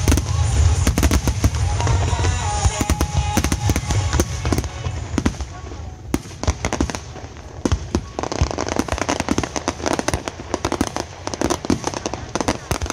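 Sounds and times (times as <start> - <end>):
fireworks crackling and popping: 0.0 - 12.9.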